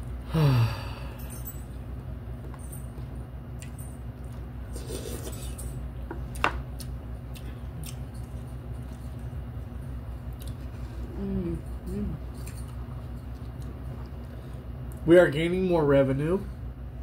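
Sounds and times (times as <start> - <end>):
low hum: 0.0 - 15.1.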